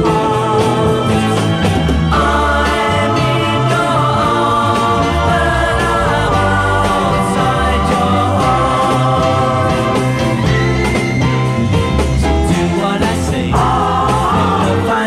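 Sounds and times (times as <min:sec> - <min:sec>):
voices singing held notes: 0:00.0 - 0:11.7, 0:12.4 - 0:15.0
pop band playing: 0:00.0 - 0:15.0.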